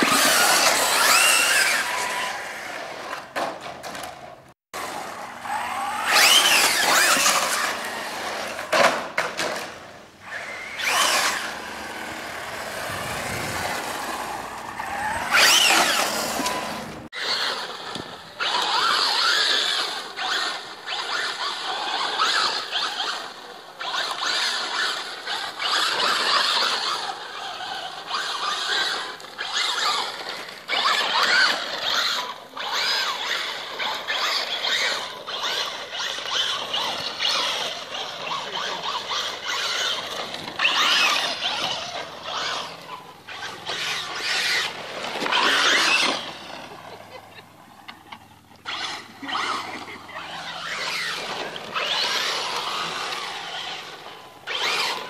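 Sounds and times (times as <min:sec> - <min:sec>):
toy truck motor whining: 0:00.0 - 0:04.2, 0:04.8 - 0:55.0.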